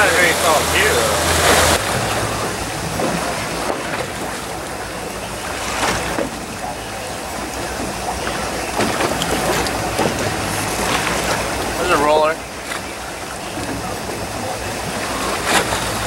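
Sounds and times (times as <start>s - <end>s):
boat engine rumble: 0.0s - 16.0s
sea water washing around hull: 0.0s - 16.0s.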